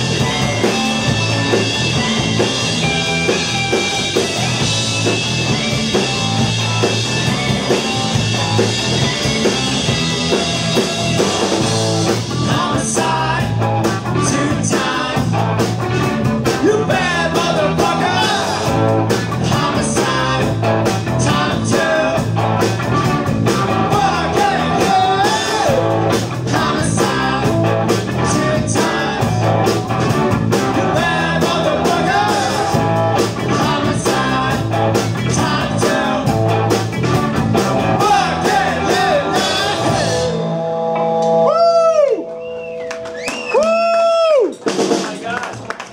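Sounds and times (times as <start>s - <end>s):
drums driving beat: 0.0s - 40.5s, 42.5s - 45.9s
bass line: 0.0s - 45.3s
rock band playing live: 0.0s - 45.9s.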